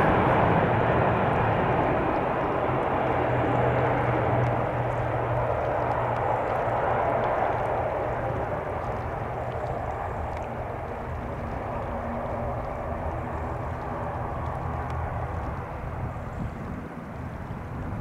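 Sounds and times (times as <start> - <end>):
low hum: 0.0 - 18.0
turboprop engine drone: 0.0 - 18.0.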